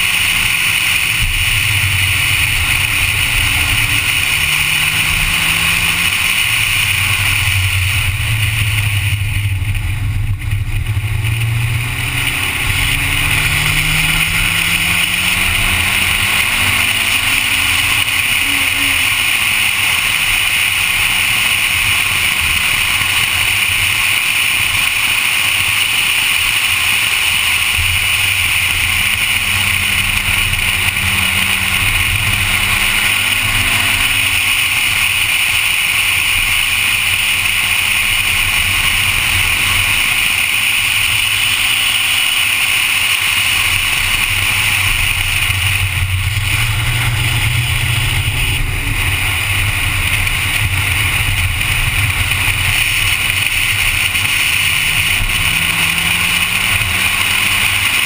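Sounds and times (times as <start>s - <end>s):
car engine: 0.0s - 58.0s
wind and road noise: 0.0s - 58.0s.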